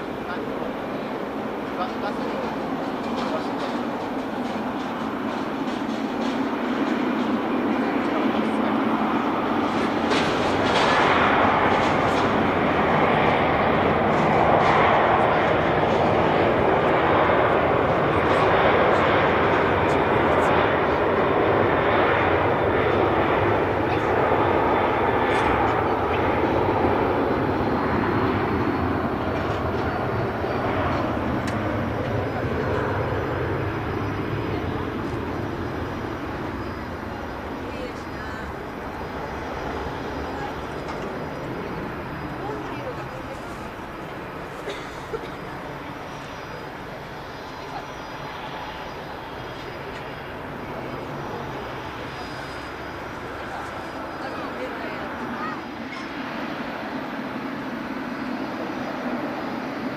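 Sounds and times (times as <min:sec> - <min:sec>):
airliner engines rushing: 0:00.0 - 0:59.9.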